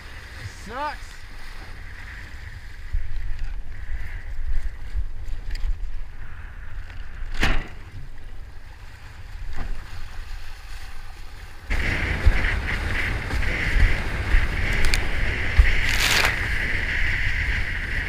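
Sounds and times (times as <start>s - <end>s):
board planing through choppy water: 0.0s - 18.0s
wind buffeting microphone: 1.2s - 18.0s.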